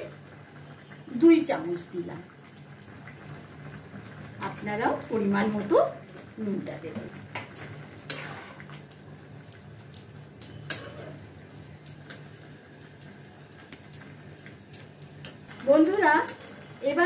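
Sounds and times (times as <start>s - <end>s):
chicken frying in a pan: 0.0s - 17.0s.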